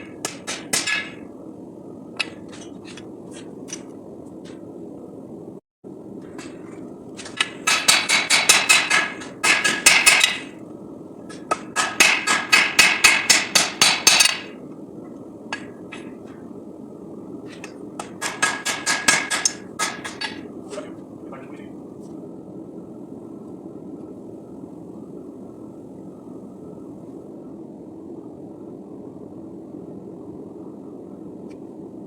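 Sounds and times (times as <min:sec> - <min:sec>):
steady low rush: 0:00.0 - 0:32.0.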